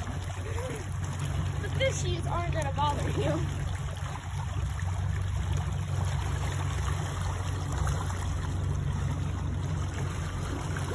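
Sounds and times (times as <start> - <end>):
boat motor running: 0.0 - 10.9
water rushing and splashing: 0.0 - 10.9.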